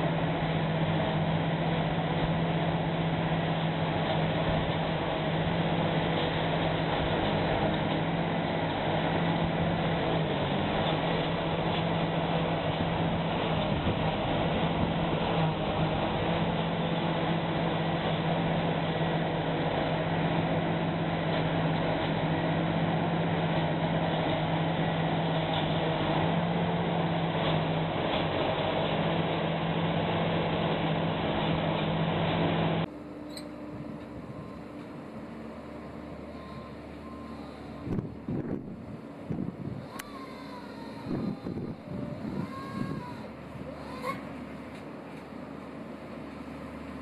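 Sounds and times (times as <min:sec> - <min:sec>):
harvester engine drone: 0:00.0 - 0:47.0
tractor engine: 0:00.0 - 0:47.0.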